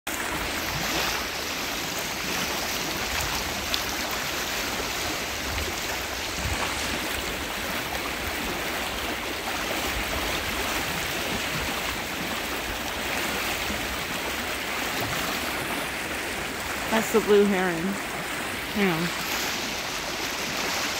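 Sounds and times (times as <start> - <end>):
river rushing over rocks: 0.1 - 20.9.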